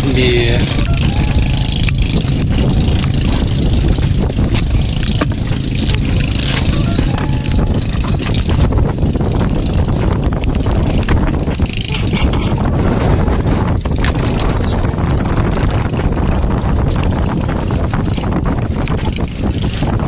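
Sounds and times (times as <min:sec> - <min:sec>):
boat engine rumbling: 0:00.0 - 0:20.0
wind buffeting microphone: 0:00.0 - 0:20.0.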